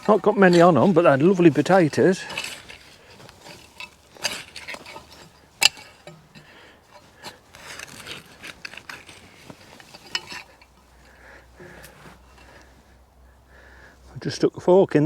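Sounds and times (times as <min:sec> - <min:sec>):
garden fork scraping soil: 0:00.0 - 0:12.9.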